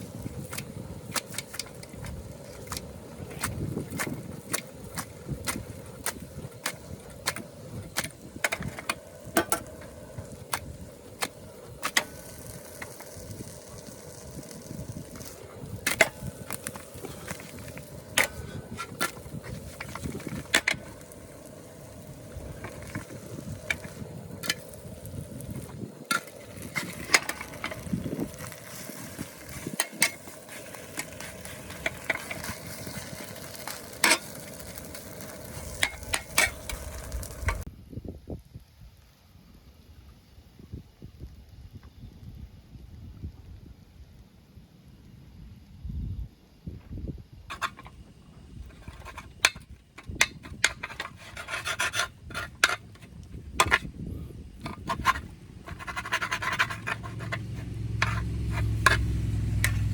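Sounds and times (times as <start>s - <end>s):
steady low hiss: 0.0s - 59.9s.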